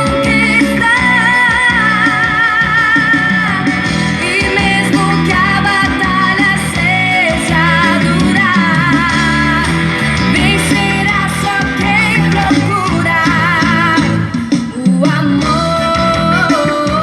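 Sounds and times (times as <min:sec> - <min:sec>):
guitar and bass: 0:00.0 - 0:17.0
person singing: 0:00.0 - 0:17.0.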